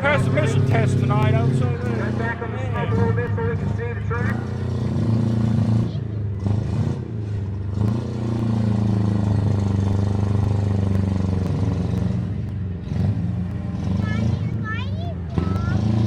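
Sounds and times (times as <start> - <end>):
vehicle engines running hard: 0.0 - 16.0.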